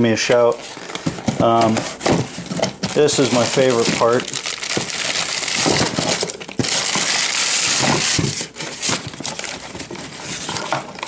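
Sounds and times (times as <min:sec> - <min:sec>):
plastic and paper crinkling: 0:00.0 - 0:11.0.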